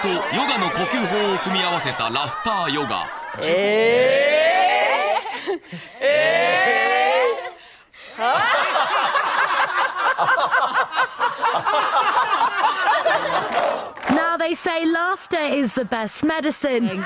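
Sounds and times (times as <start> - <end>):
group of people laughing: 0.0 - 14.0.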